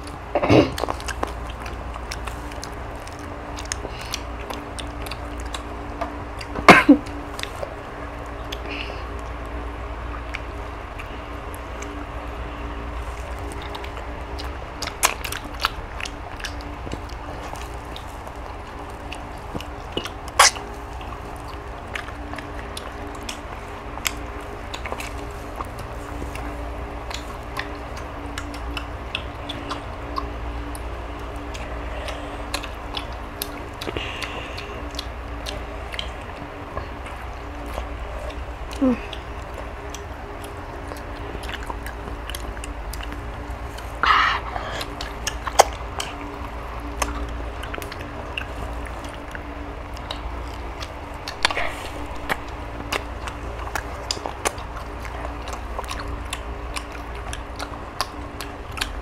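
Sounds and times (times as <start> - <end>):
low hum: 0.0 - 59.0
people chewing and biting: 0.0 - 59.0.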